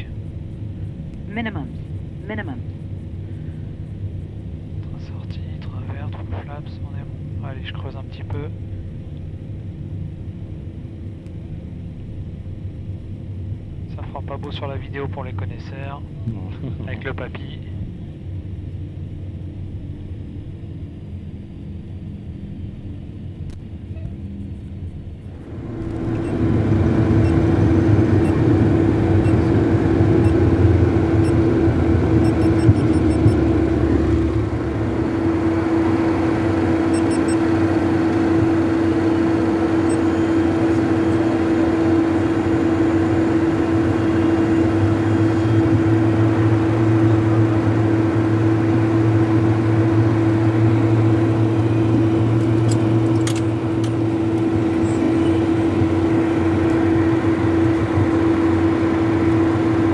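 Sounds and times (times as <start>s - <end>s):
jet cockpit hum and rumble: 0.0s - 59.9s.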